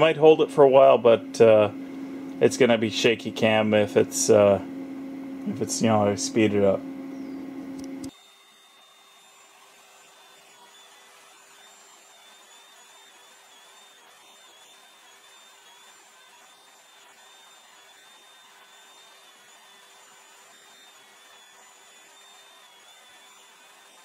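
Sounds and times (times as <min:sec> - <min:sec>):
router motor whining: 0:00.0 - 0:24.0.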